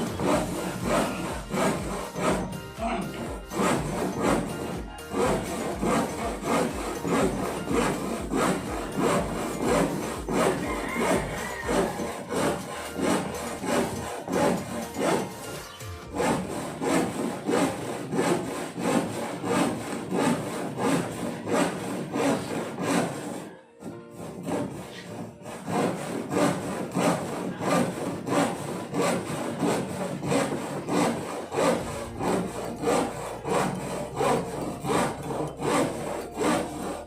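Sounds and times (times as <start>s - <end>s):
hand saw cutting plywood: 0.0s - 37.0s.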